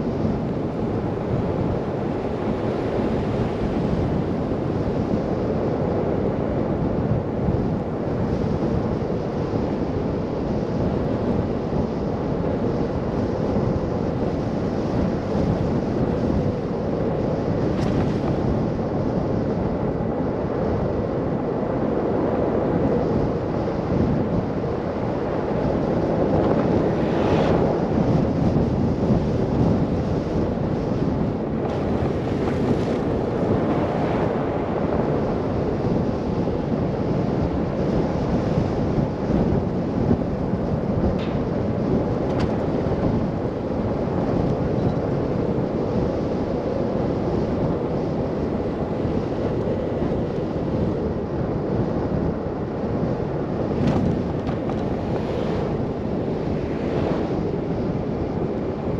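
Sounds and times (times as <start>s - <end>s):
blizzard wind roaring: 0.0s - 58.9s.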